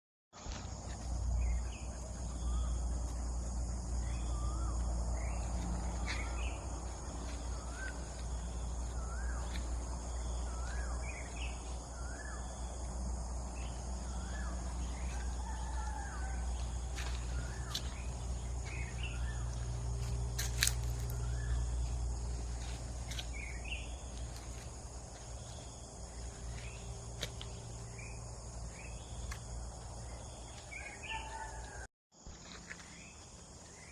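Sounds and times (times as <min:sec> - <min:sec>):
high insect drone: 0:00.4 - 0:33.9.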